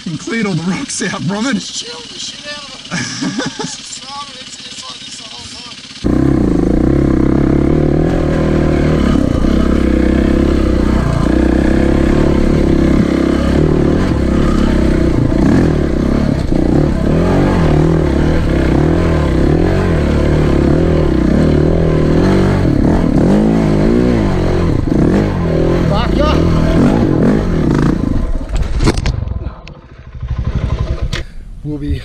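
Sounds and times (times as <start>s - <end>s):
dirt bike engine revving: 0.0s - 31.3s.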